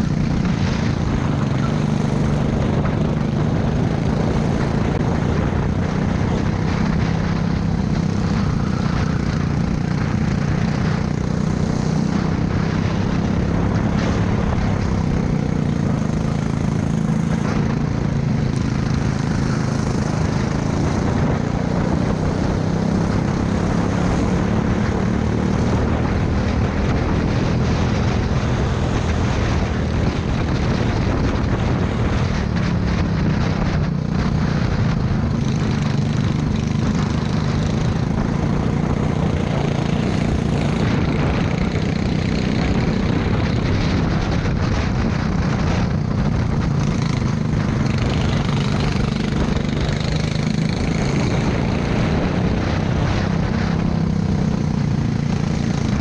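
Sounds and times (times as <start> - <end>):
kart engine running hard: 0.0 - 56.0
rush of noise: 0.0 - 56.0.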